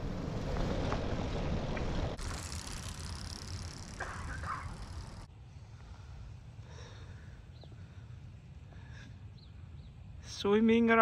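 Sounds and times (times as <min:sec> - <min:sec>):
wind and road noise: 0:00.0 - 0:10.5
hissy outdoor ambience: 0:00.0 - 0:11.0.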